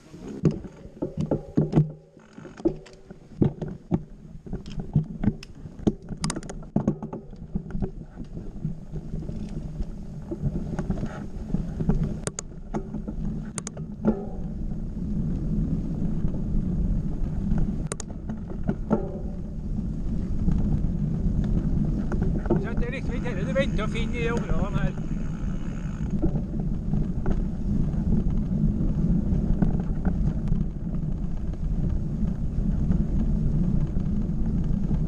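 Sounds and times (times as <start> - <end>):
bike tyres rumbling on trail: 0.0 - 35.0
bike clicks and rattles: 0.1 - 35.0.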